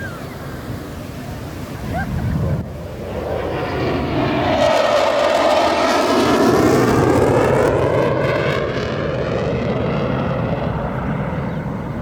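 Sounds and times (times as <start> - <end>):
jet aircraft flying past: 0.0 - 12.0.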